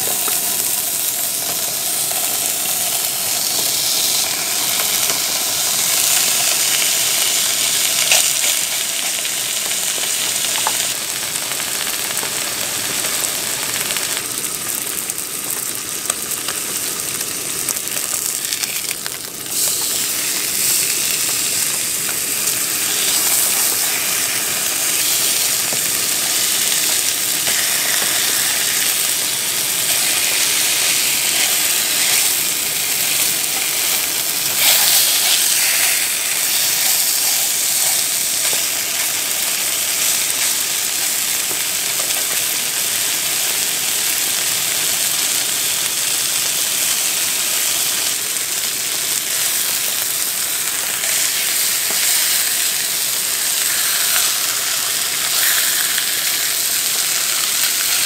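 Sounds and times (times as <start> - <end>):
pork sizzling in a frying pan: 0.0 - 58.0.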